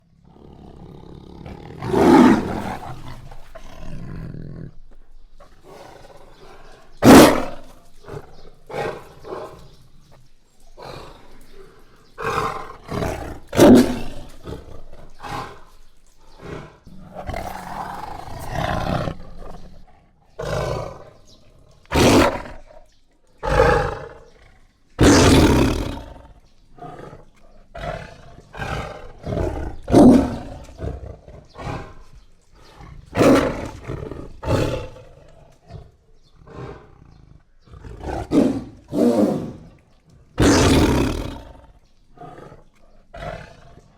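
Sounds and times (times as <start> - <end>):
jaguar roaring: 0.2 - 10.0, 10.6 - 43.9.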